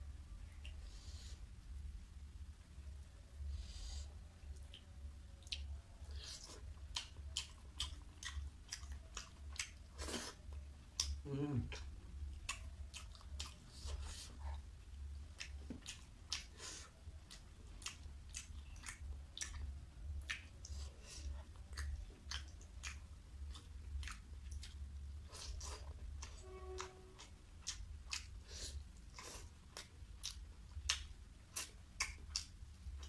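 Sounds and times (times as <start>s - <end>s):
wet chewing and lip-smacking: 4.5s - 33.0s.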